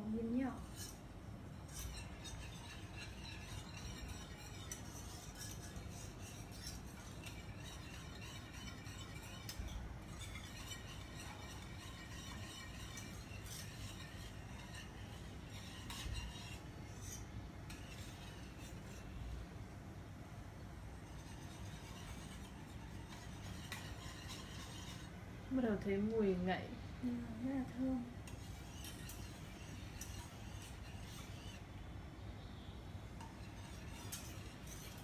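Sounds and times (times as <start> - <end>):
whisk clinking in metal pan: 0.5 - 19.4, 20.9 - 25.2, 28.2 - 31.7, 33.1 - 35.0.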